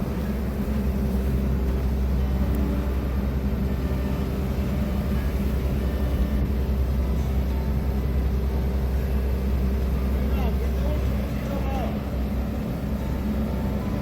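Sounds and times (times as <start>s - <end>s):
road roller diesel engine: 0.0s - 14.0s.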